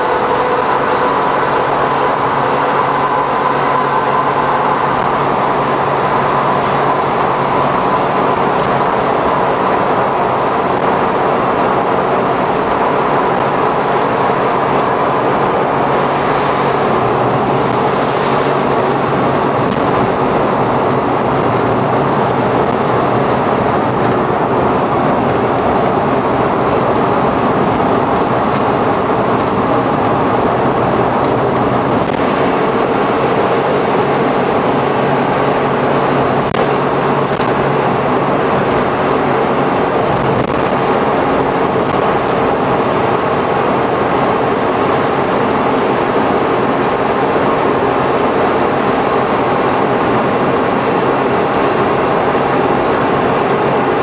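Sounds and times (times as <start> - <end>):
small van engine: 0.0 - 54.0
tyre and road noise: 0.0 - 54.0.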